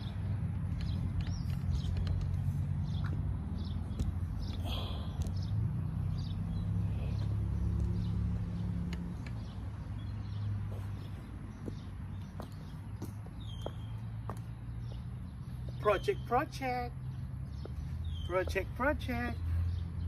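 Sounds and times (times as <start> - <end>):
bird chirps: 0.8 - 20.0.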